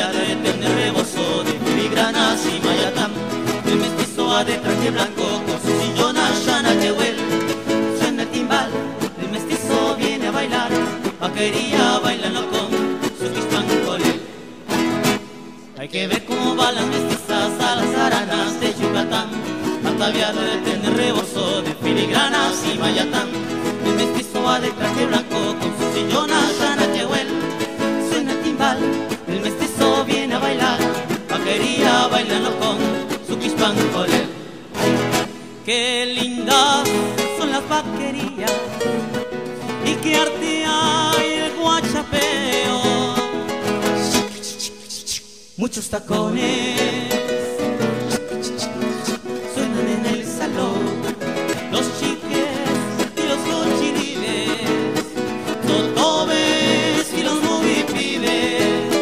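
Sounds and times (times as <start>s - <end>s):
person singing: 0.0s - 14.5s, 15.7s - 34.5s, 35.2s - 59.0s
latin music with plucked guitar: 0.0s - 59.0s.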